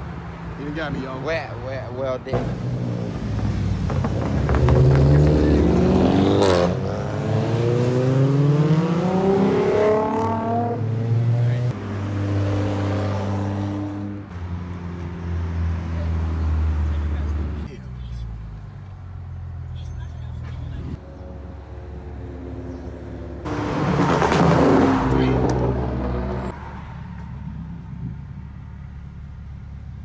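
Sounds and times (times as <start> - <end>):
car engines accelerating: 0.0 - 30.0.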